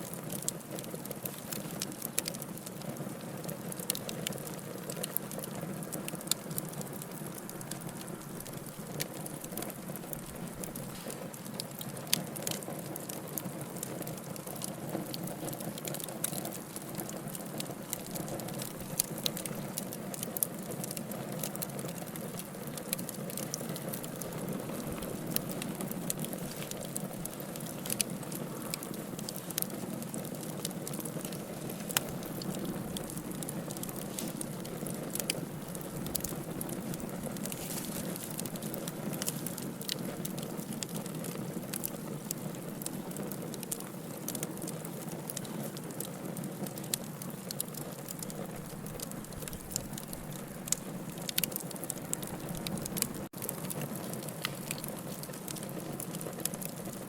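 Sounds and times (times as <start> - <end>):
fire crackles and pops: 0.0 - 57.0
wood fire hissing: 0.0 - 57.0.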